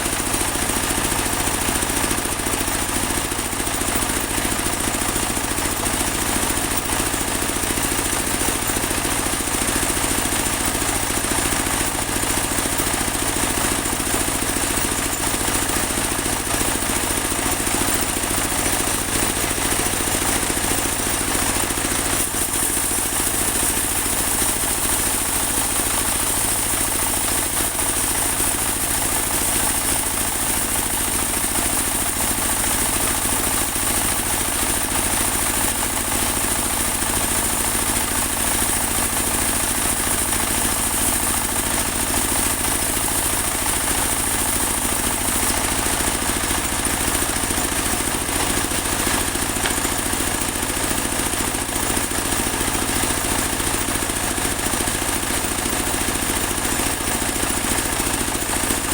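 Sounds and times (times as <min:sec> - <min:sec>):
sawmill engine drone: 0:00.0 - 0:58.9.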